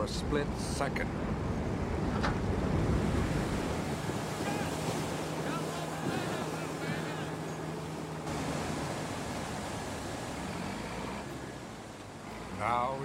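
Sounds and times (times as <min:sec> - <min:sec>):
fire hoses rushing roar: 0:01.1 - 0:12.7.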